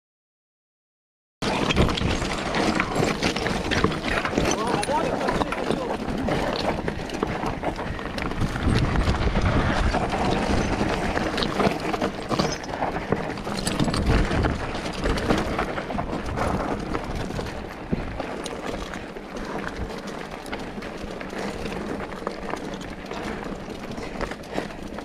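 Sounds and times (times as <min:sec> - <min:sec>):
bike rattling: 0:01.4 - 0:25.0
tyres crunching over stones: 0:01.4 - 0:25.0.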